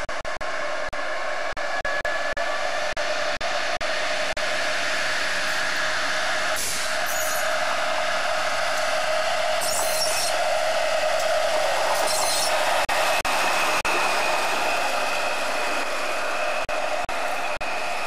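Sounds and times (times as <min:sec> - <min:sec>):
diesel locomotive running past: 0:00.0 - 0:18.0
high-pitched rail noise: 0:00.0 - 0:18.0.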